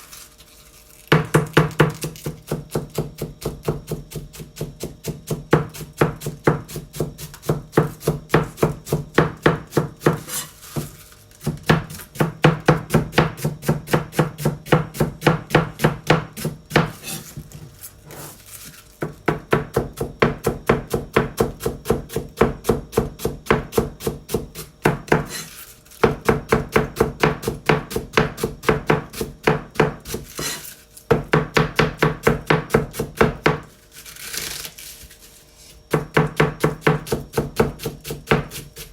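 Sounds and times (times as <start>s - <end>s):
knife shredding cabbage on board: 0.0s - 38.9s.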